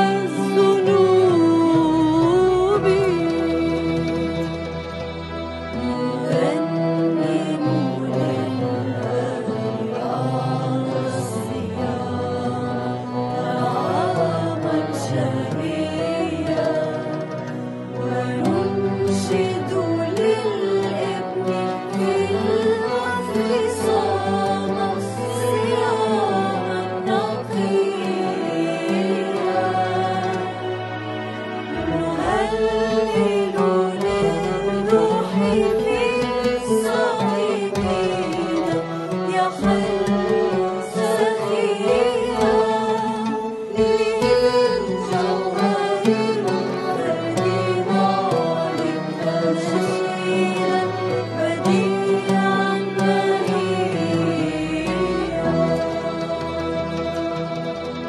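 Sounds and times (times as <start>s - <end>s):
sustained instrumental accompaniment: 0.0s - 58.0s
voices chanting a hymn: 5.8s - 57.8s.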